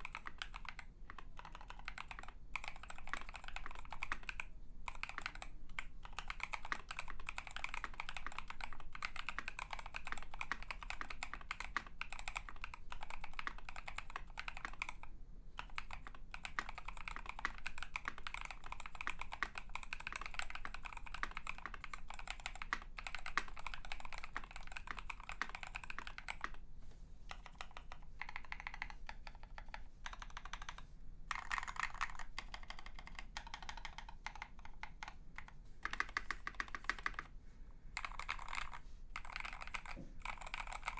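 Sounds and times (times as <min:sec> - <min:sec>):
typing on mechanical keyboard: 0:00.0 - 0:26.6, 0:27.3 - 0:37.3, 0:38.0 - 0:40.9.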